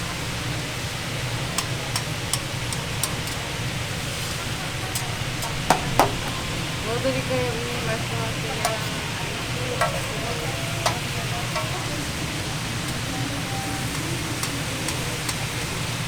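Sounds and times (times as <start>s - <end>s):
patties frying on grill: 0.0s - 16.0s
metal utensils clinking: 1.3s - 16.0s.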